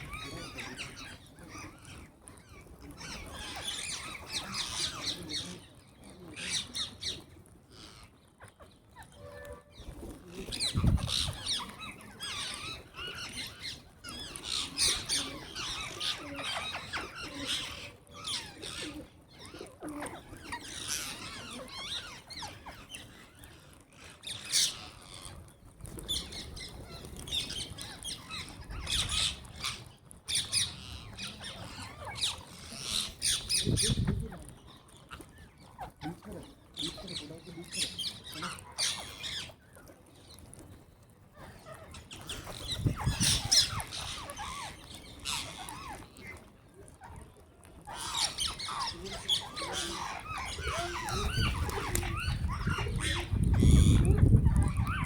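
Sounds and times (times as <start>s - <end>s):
parrots squawking and chattering: 0.0s - 55.0s.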